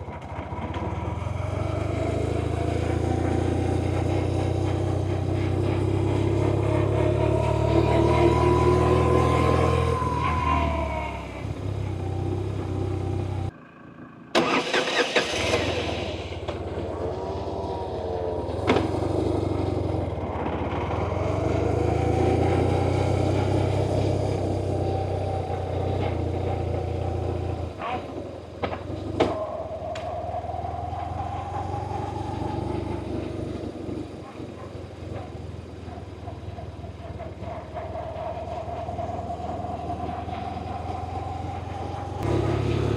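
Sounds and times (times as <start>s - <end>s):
motorcycle engine revving: 0.0s - 13.6s, 14.2s - 42.9s.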